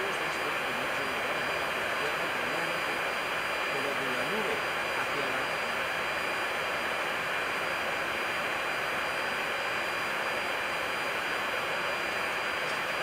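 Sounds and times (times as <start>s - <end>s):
airflow and engine rushing: 0.0s - 13.0s
faint high whine: 0.0s - 13.0s.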